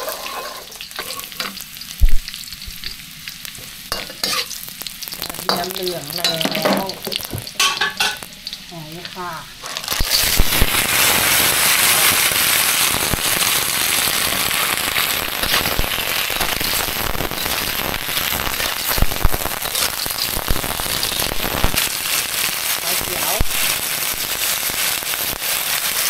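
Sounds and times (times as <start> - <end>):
clams sizzling in hot fat: 0.0 - 26.0.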